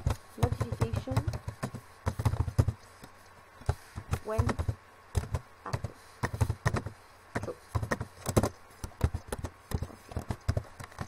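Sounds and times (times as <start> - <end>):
typing on a keyboard: 0.0 - 2.9, 4.1 - 11.0.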